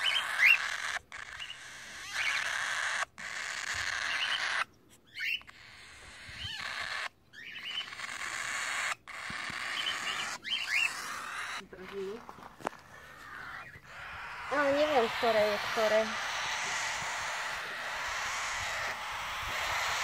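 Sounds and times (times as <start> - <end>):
cockatiels chirping: 0.0 - 20.0.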